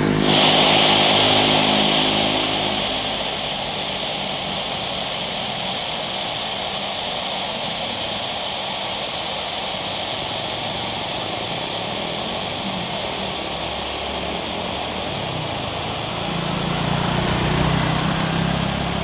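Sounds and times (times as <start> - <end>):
airliner engine rushing noise: 0.0 - 19.0.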